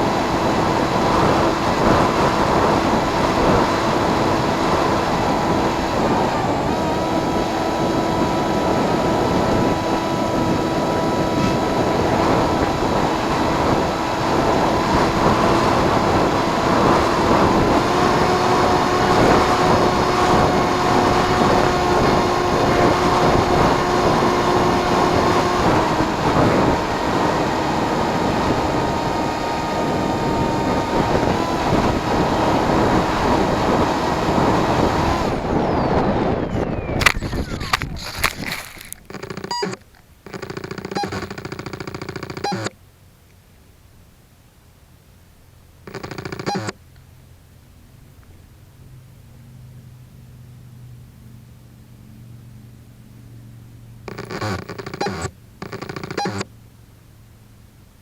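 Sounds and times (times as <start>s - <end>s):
motor and propeller hum: 0.0s - 43.0s, 45.6s - 58.0s.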